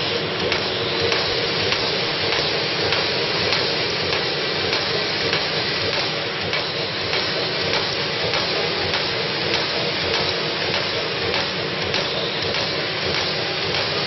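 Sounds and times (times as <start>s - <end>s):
bag making machine running: 0.0s - 14.0s
light machine clicks: 0.0s - 14.0s.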